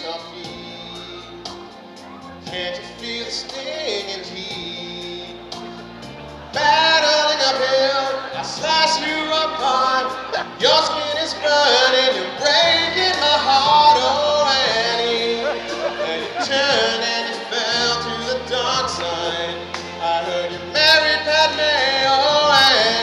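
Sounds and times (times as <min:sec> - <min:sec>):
man singing a ballad: 0:00.0 - 0:23.0
musical accompaniment: 0:00.0 - 0:23.0.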